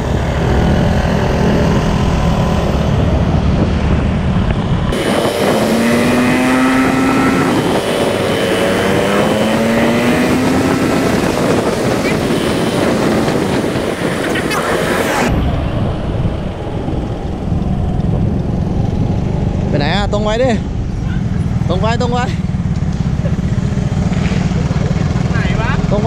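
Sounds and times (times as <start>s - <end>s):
scooter engine accelerating: 0.0s - 26.0s
wind noise: 0.0s - 26.0s.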